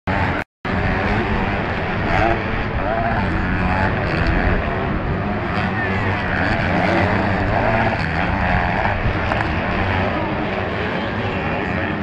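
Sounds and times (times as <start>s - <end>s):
motocross bike engines revving: 0.1s - 12.0s.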